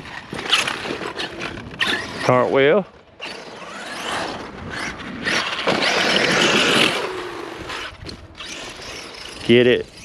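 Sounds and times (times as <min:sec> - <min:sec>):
rc truck driving on dirt: 0:00.0 - 0:10.0.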